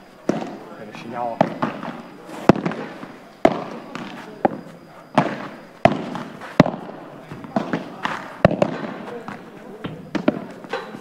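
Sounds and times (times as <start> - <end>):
padel ball hitting rackets: 0.2 - 0.6, 1.3 - 11.0.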